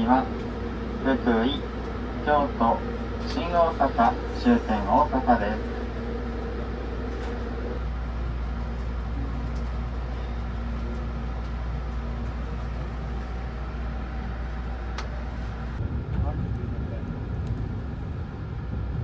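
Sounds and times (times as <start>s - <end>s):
train interior low hum: 0.0s - 19.0s.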